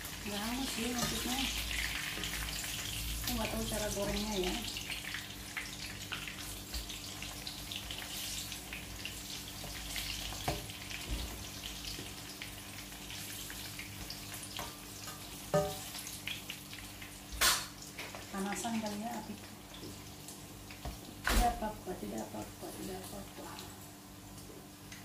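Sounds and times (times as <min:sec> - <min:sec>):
chilies sizzling in hot oil: 0:00.0 - 0:25.0.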